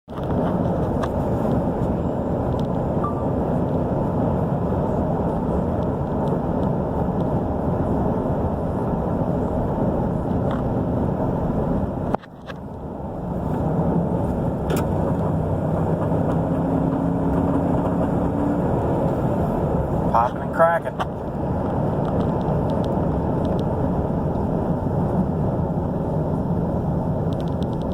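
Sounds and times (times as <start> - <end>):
engine running: 0.1 - 27.9.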